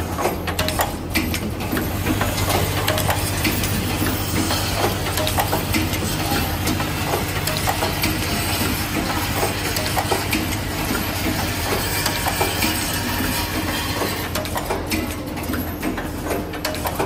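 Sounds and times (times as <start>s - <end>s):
machine clicks and clacks: 0.0s - 17.0s
machine hum: 0.0s - 17.0s.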